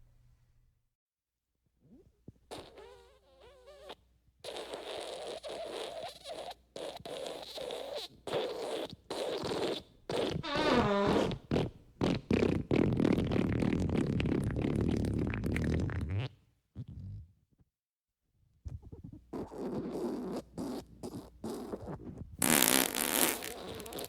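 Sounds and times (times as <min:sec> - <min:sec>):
fart sound effects: 0:02.5 - 0:17.2, 0:18.9 - 0:24.0.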